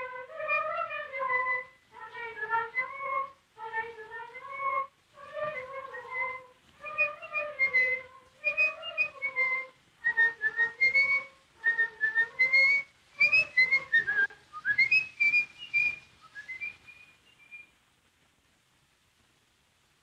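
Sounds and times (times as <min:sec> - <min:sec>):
high whistle-like melody: 0:00.0 - 0:03.3, 0:04.3 - 0:17.7.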